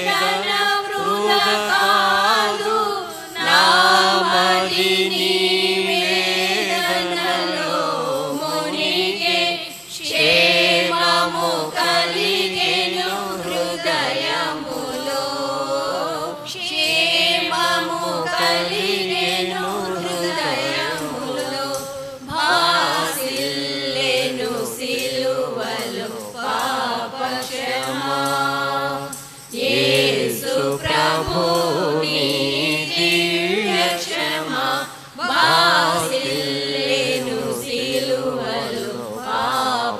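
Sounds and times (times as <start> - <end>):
women singing a hymn a cappella: 0.0 - 39.9.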